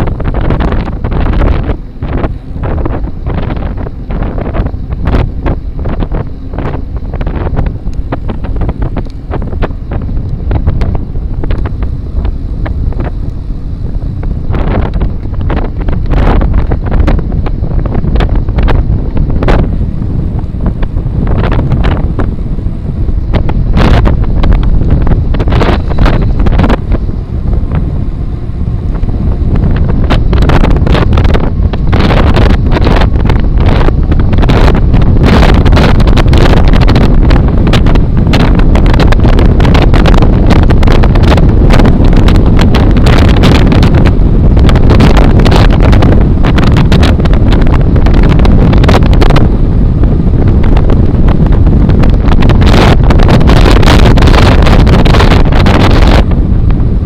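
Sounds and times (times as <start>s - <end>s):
constant low rumble: 0.0s - 57.0s
wind buffeting microphone: 0.0s - 57.0s.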